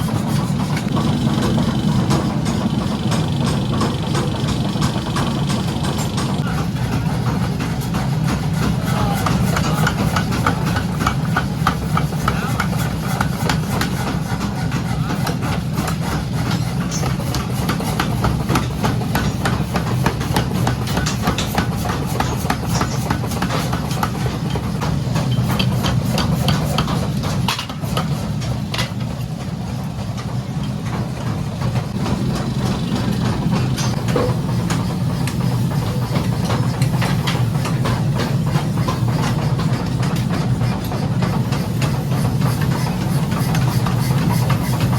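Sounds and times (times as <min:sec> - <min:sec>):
machinery humming: 0:00.0 - 0:44.9
rapid regular knocking: 0:00.0 - 0:44.9.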